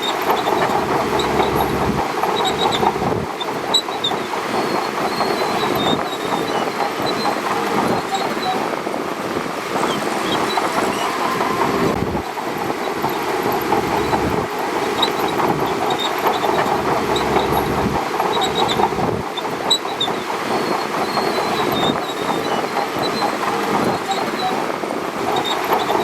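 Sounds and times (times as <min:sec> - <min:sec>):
bulldozer engine droning: 0:00.0 - 0:26.0
steel tracks clattering: 0:00.0 - 0:26.0.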